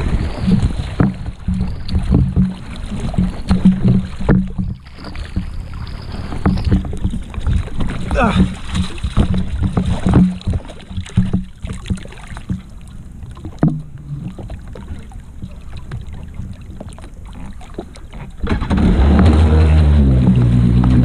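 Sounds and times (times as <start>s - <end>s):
knocks and rubbing on jet ski: 0.0s - 21.0s
water lapping against hull: 0.0s - 21.0s.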